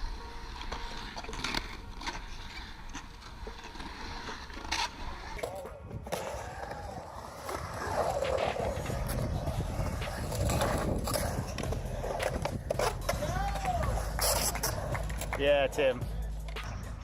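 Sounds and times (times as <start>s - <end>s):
skateboard wheels rolling on concrete: 0.0s - 17.0s
skateboard clacks: 0.1s - 15.7s.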